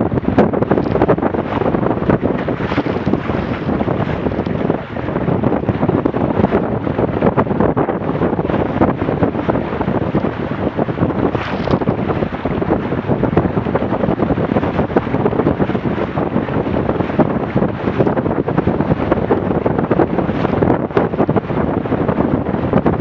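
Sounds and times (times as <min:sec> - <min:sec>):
rushing water: 0:00.0 - 0:23.0
wind buffeting microphone: 0:00.0 - 0:23.0.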